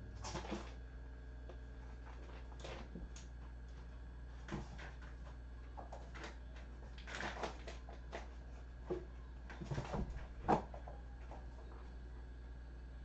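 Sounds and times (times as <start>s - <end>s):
steady low hum: 0.0s - 13.0s
kittens knocking and rustling: 1.5s - 12.0s.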